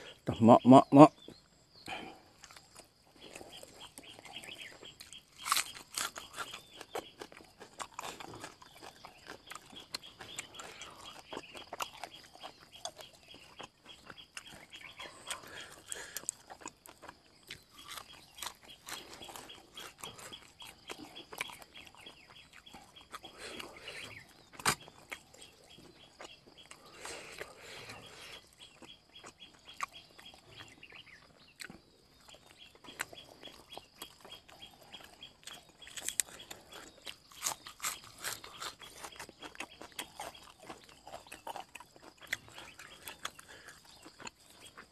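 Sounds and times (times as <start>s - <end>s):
man chewing: 1.7s - 44.9s.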